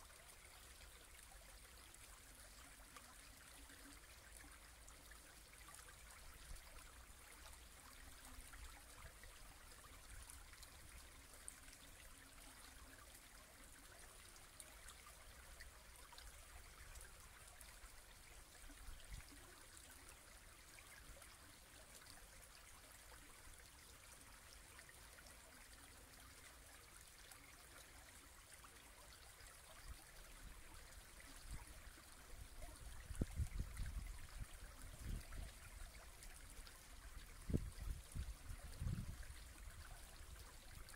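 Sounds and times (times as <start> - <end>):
brook babbling: 0.0 - 40.9.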